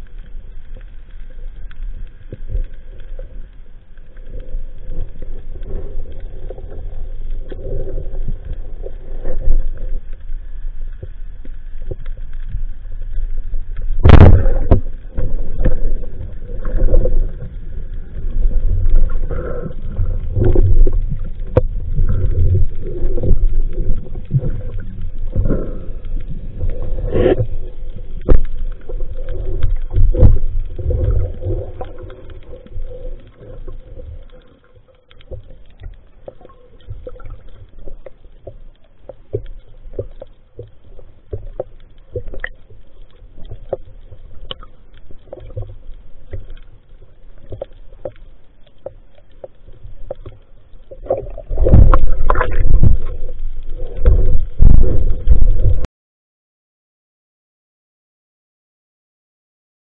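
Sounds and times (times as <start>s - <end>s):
muffled underwater rumbling and sloshing: 0.0s - 55.9s.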